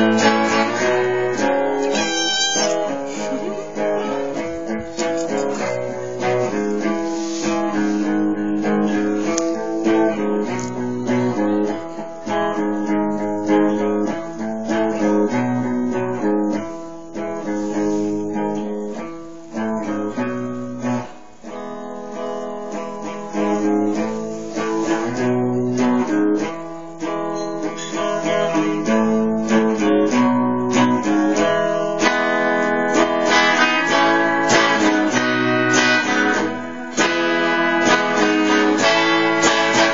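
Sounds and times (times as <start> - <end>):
acoustic guitar strumming and picking: 0.0 - 39.9.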